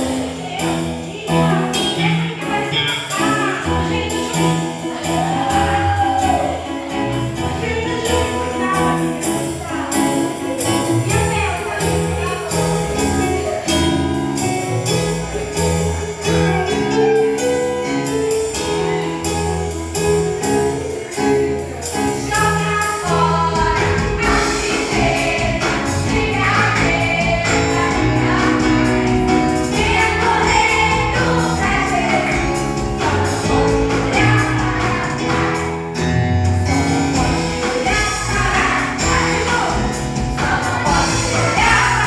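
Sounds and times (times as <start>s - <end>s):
gospel worship song: 0.0s - 42.0s.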